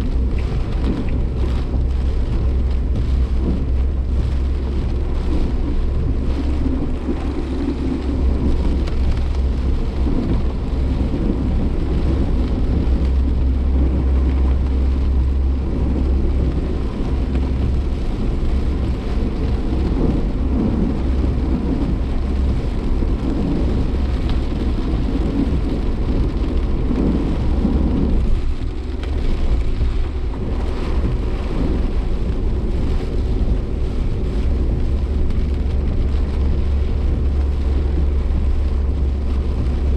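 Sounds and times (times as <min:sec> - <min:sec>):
car engine running: 0:00.0 - 0:39.9
rain on car body: 0:00.0 - 0:39.9
wind and road noise rumble: 0:00.0 - 0:39.9.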